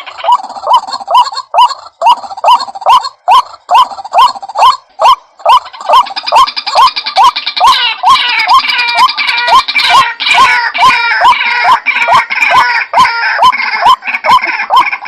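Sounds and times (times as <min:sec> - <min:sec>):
bird harsh repeated calls: 0:00.0 - 0:15.0.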